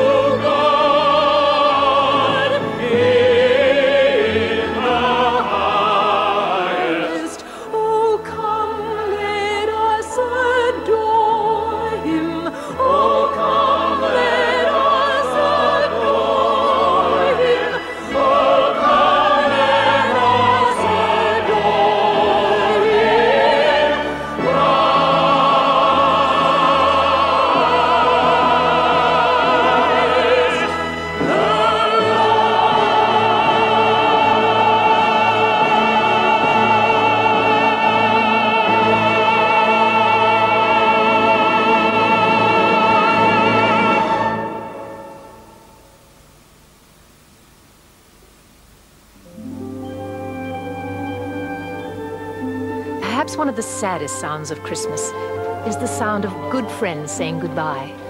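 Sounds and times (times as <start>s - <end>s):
orchestra: 0.0s - 45.5s, 49.2s - 58.0s
operatic singing: 0.0s - 45.6s, 49.4s - 58.0s.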